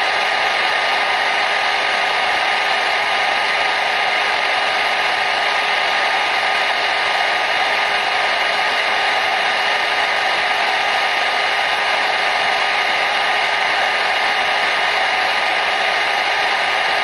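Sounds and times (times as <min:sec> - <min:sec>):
hair dryer blowing air: 0:00.0 - 0:17.0.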